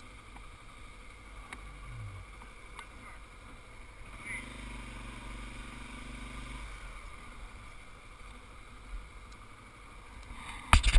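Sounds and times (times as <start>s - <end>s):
motorcycle engine running: 0.0s - 10.9s
wind and road noise rumble: 0.0s - 10.9s.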